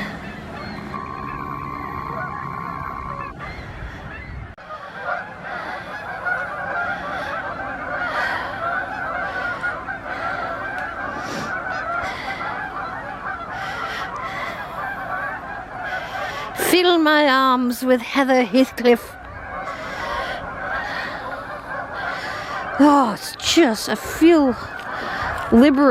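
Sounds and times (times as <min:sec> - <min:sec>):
flock of geese honking: 0:00.0 - 0:25.9.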